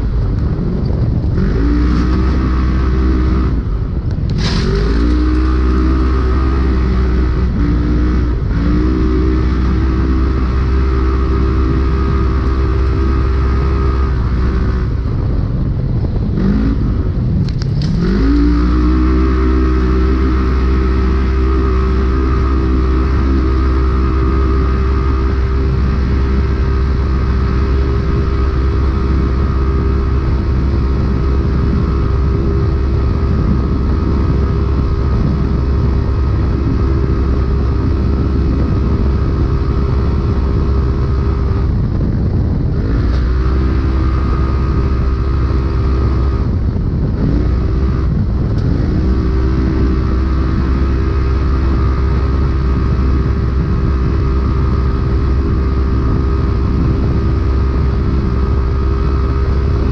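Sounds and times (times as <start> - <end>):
constant low rumble: 0.0 - 59.9
engine revving hard: 1.3 - 15.3, 16.4 - 41.8, 42.8 - 59.9.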